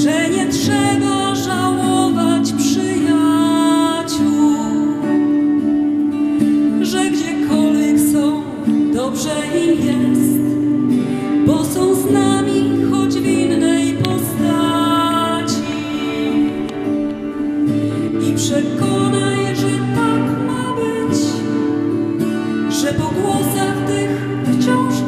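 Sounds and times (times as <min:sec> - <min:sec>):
woman singing a carol: 0:00.0 - 0:05.2, 0:06.8 - 0:10.6, 0:11.4 - 0:17.0, 0:18.0 - 0:21.9, 0:22.7 - 0:25.0
guitar: 0:00.0 - 0:25.0.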